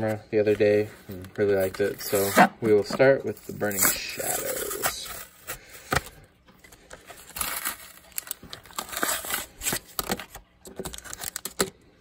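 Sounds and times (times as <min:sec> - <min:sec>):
plastic and cardboard crinkling: 0:00.0 - 0:11.8.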